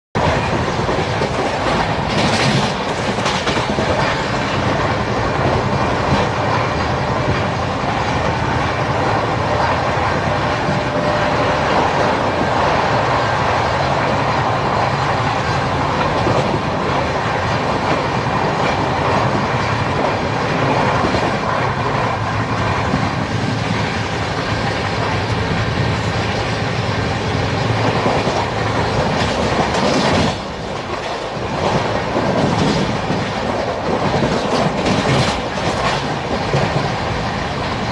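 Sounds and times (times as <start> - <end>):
clickety-clack over rail joints: 0.2 - 37.9
train wheels rolling on rail: 0.2 - 37.9.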